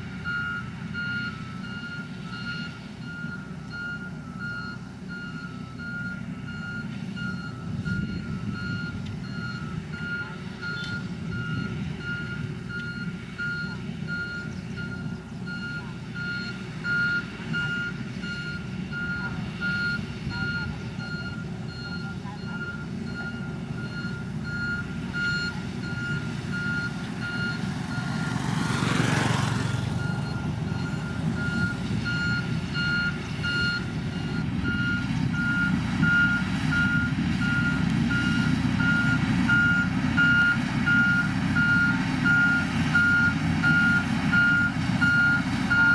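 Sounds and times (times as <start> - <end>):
diesel engine running: 0.0 - 45.9
back-up alarm beeping: 0.2 - 28.1, 30.0 - 45.9.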